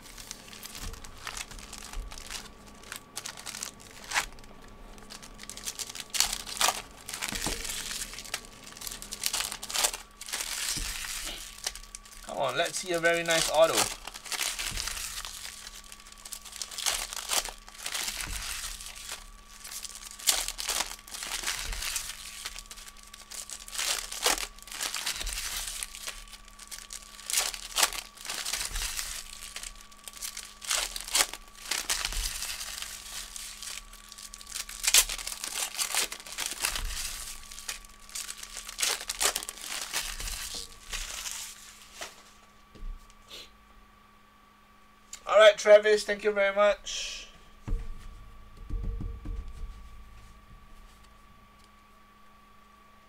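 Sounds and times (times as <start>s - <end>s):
foil wrappers crinkling: 0.0s - 43.1s
faint electrical hum: 0.0s - 53.0s.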